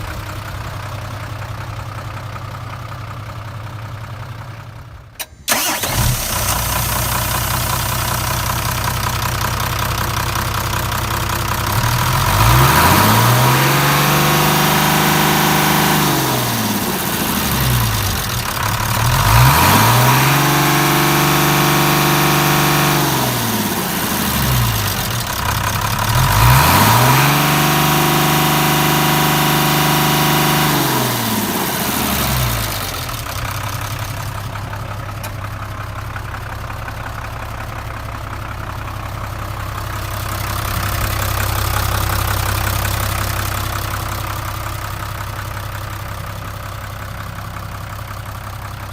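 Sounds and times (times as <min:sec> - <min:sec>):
diesel engine idling and revving: 0:00.0 - 0:48.9.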